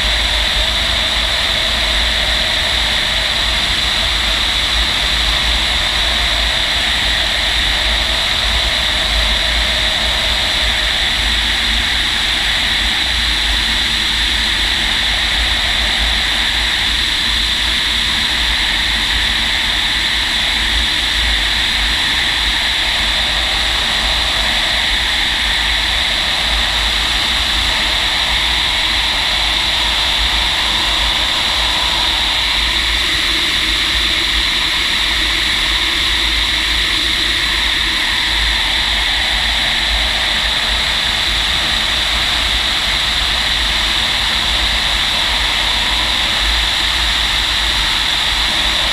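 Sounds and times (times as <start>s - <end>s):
rushing airflow in cockpit: 0.0s - 48.9s
wind rumble on microphone: 0.0s - 48.9s.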